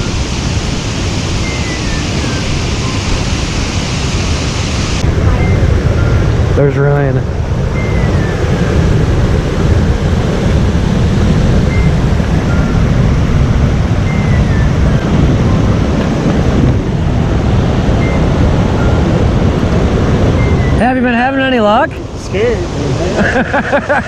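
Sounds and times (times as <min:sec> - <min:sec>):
river rapids rushing: 0:00.0 - 0:24.0
wind buffeting microphone: 0:00.0 - 0:24.0.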